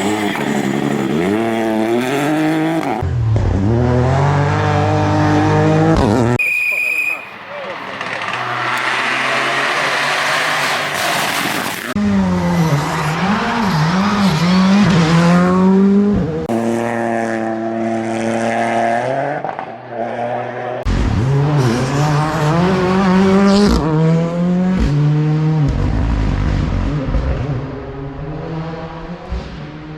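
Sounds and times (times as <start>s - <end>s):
rally car engines revving: 0.0s - 6.4s, 7.3s - 29.9s.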